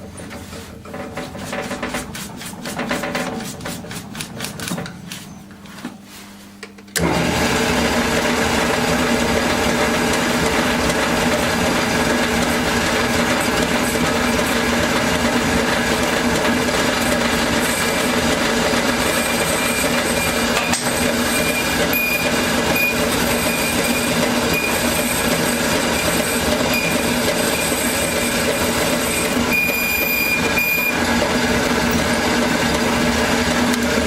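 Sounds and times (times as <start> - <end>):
workshop machine humming: 0.0 - 34.0.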